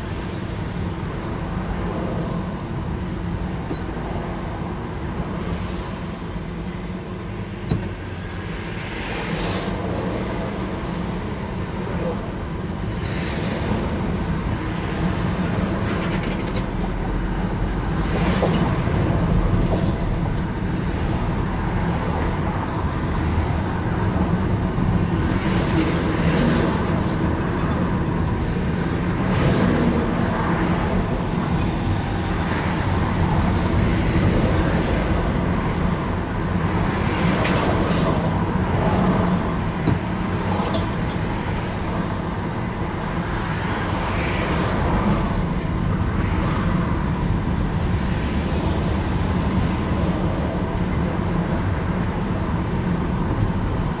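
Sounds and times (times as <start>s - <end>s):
car engine and tyre rumble: 0.0s - 54.0s
vehicles whooshing by: 0.0s - 54.0s.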